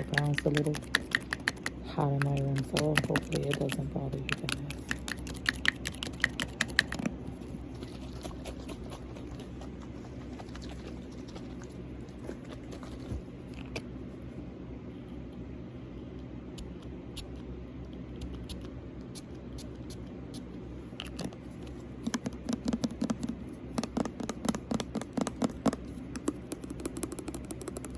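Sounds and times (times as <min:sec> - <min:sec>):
electric fan humming: 0:00.0 - 0:27.9.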